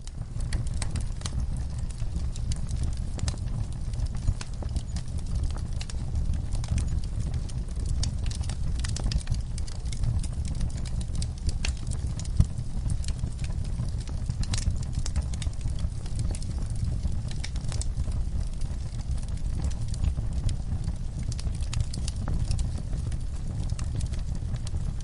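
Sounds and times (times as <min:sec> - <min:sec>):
low rumble of burning: 0:00.0 - 0:25.0
wood fire crackling: 0:00.0 - 0:25.0.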